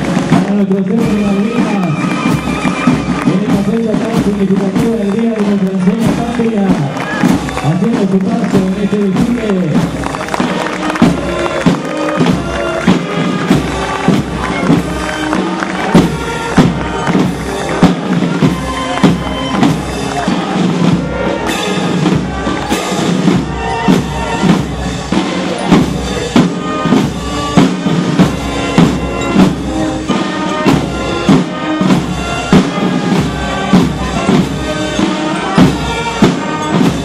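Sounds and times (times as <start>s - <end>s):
military band playing a march: 0.0s - 37.0s.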